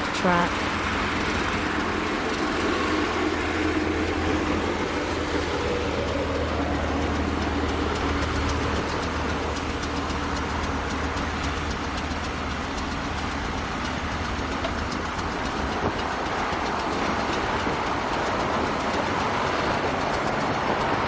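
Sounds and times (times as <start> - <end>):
dump truck engine running: 0.0 - 21.0.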